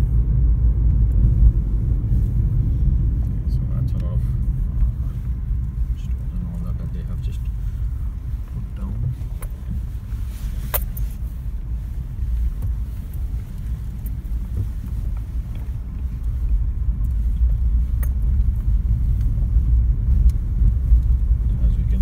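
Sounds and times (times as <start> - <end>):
car interior rumble: 0.0 - 22.0.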